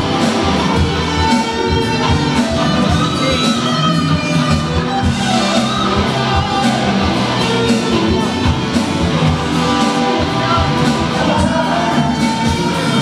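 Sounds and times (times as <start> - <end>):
drum kit beat: 0.0 - 13.0
electric and acoustic guitars: 0.0 - 13.0.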